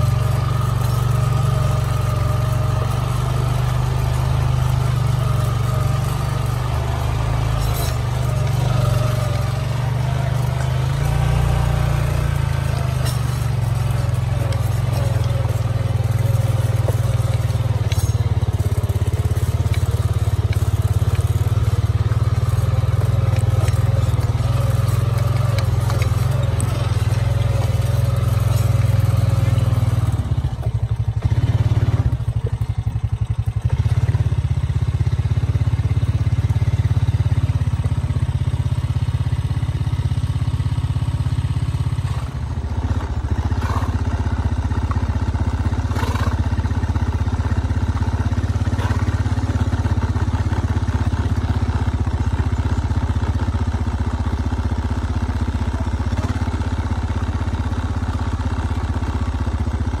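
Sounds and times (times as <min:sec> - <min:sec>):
small engine droning: 0:00.0 - 1:00.0.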